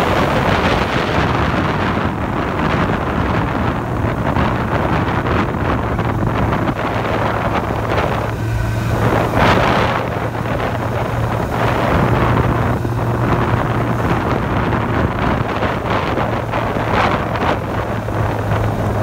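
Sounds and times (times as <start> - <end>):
steady low hum: 0.0 - 19.0
wind buffeting microphone: 0.0 - 19.0.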